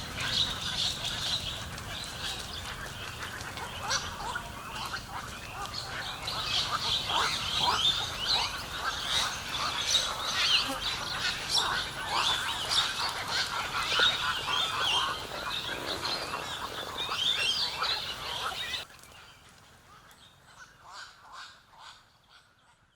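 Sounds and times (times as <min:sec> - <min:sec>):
flock of birds calling: 0:00.0 - 0:22.5.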